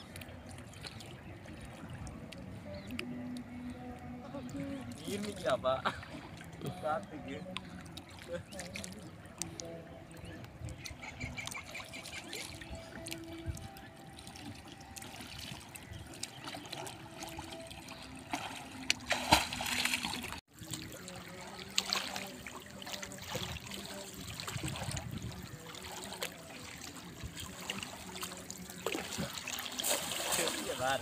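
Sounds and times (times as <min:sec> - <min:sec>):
small water splashes: 0:00.0 - 0:31.0
water lapping and trickling: 0:00.0 - 0:31.0.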